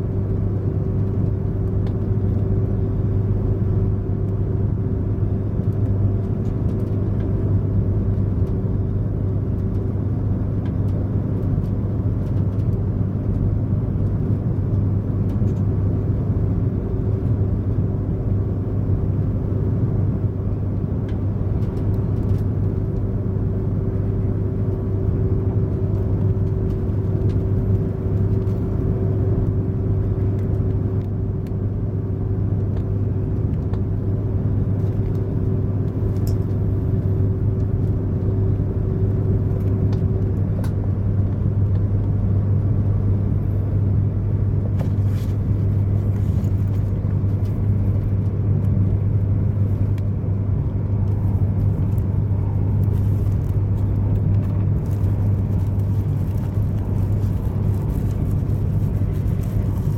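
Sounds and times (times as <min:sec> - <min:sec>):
train running rumble and hum: 0:00.0 - 0:59.9.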